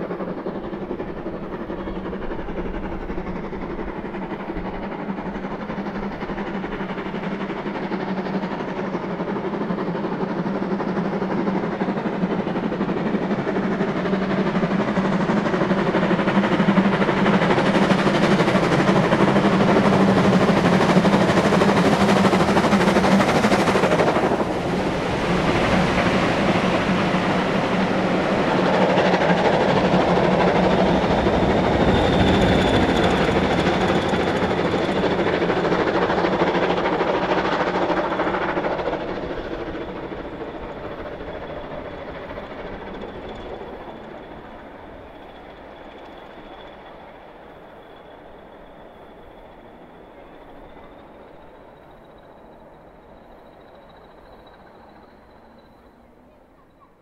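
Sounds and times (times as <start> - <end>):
coaches rolling over rails: 0.0 - 56.9
steam locomotive working hard: 0.0 - 57.0.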